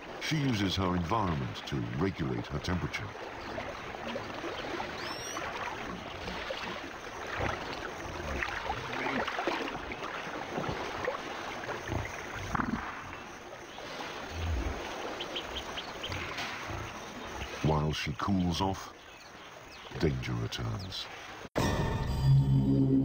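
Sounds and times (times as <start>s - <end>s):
water sloshing and splashing: 0.0s - 21.5s.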